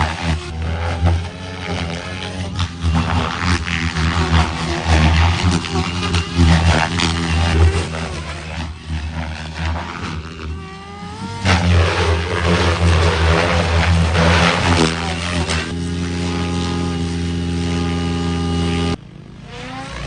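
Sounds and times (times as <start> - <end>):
helicopter motor whining: 0.0 - 20.0
rotor blades beating: 0.0 - 20.0.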